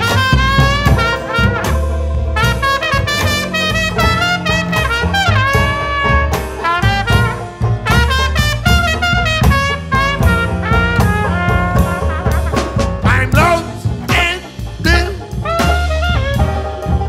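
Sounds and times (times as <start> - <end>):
jazzy blues music with horns: 0.0 - 17.0.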